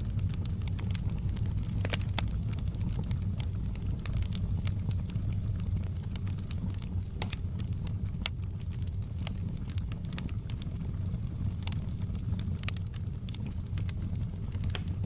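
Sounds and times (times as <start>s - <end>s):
fire popping and snapping: 0.0s - 15.0s
low rumble of flames: 0.0s - 15.0s
wood fire crackling: 0.0s - 15.0s.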